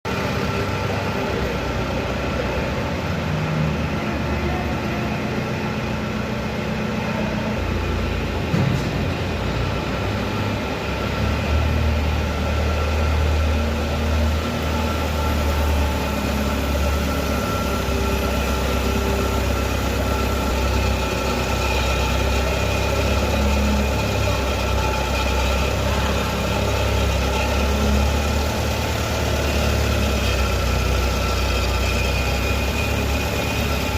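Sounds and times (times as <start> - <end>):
industrial machinery humming: 0.1 - 33.9.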